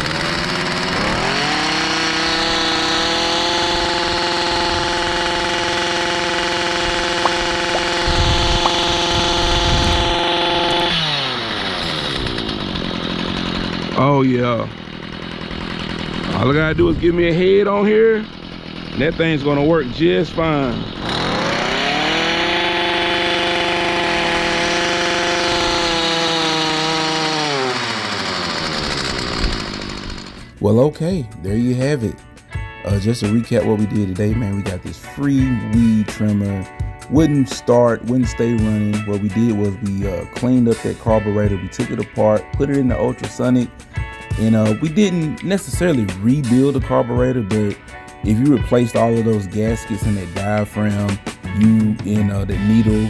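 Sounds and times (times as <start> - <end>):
trimmer engine high whine: 0.0 - 16.6, 17.5 - 37.0, 38.0 - 53.0.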